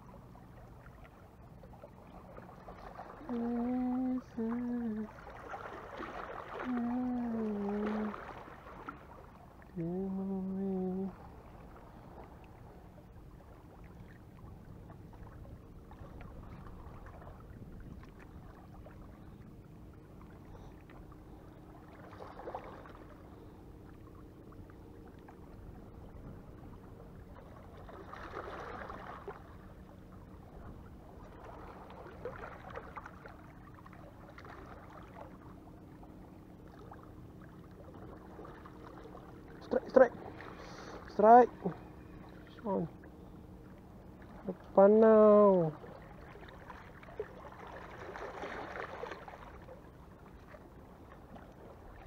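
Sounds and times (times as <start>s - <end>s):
low hum: 0.0s - 52.0s
water lapping against rocks: 0.8s - 19.4s, 20.2s - 35.7s, 44.2s - 52.0s.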